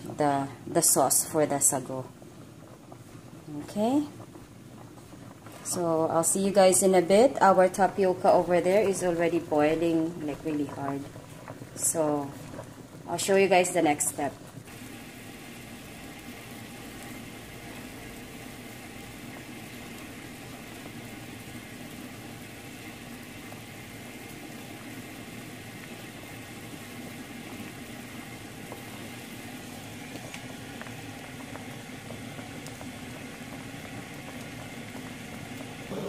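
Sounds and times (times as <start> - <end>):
pots boiling and bubbling: 0.0 - 36.0.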